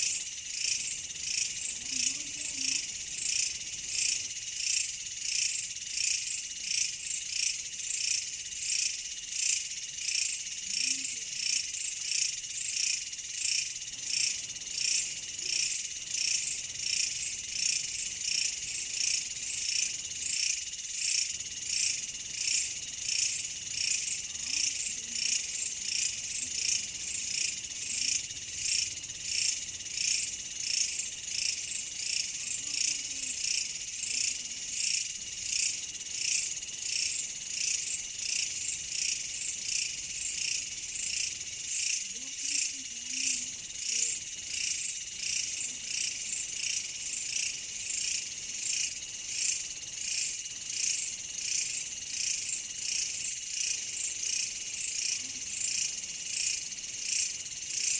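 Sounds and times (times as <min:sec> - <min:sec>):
insects chirring: 0:00.0 - 0:57.9.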